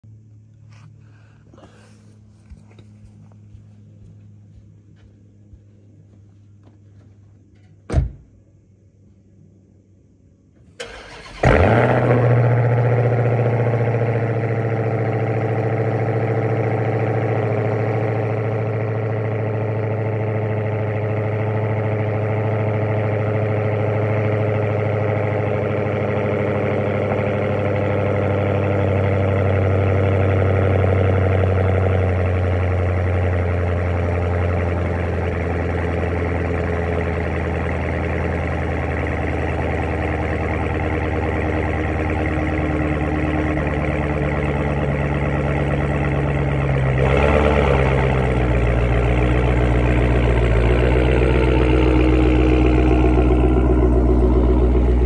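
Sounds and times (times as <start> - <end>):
car engine starting and idling: 0.0 - 8.8, 9.8 - 55.0.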